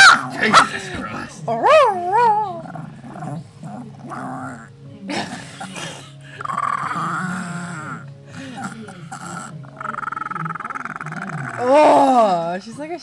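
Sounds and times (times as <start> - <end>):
small dog growling: 0.0 - 12.6.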